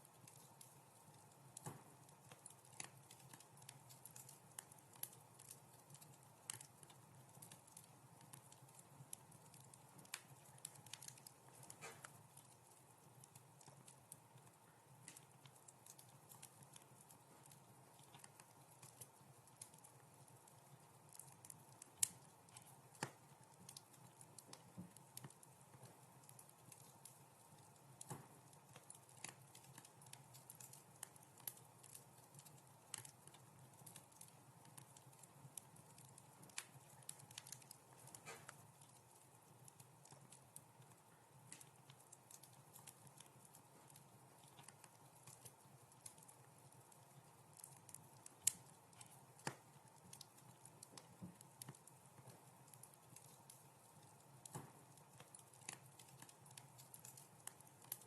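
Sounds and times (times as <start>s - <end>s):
faint steady hiss: 0.0s - 58.0s
wood fire crackling and popping: 0.0s - 58.0s.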